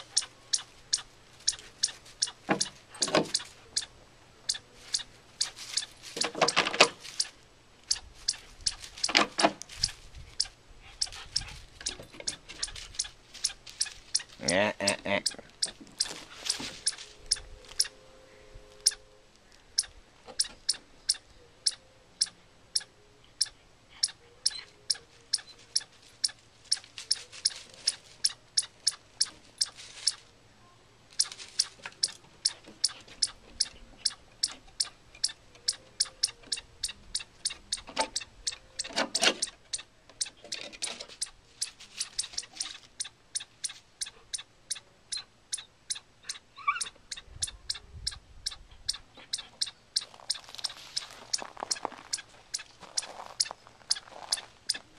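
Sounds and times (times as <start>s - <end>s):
chipmunk alarm chips: 0.0s - 18.0s, 18.8s - 19.0s, 19.7s - 30.2s, 31.1s - 54.9s.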